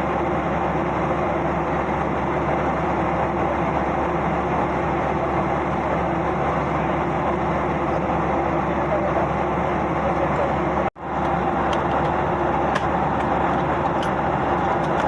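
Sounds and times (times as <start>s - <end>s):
airliner cabin engine rush: 0.0s - 15.0s.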